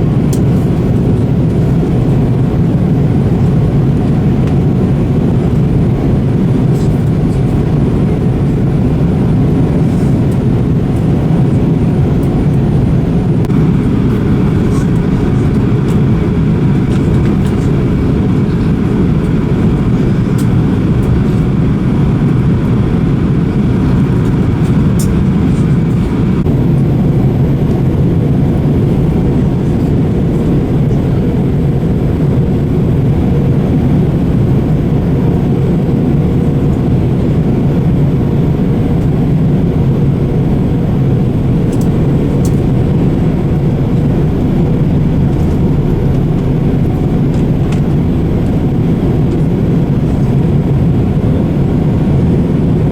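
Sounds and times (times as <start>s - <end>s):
jet engine cabin rumble: 0.0s - 52.9s.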